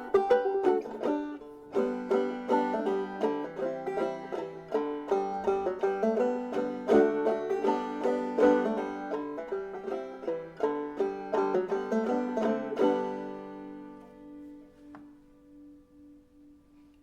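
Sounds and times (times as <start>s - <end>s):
banjo picked notes: 0.0s - 17.0s.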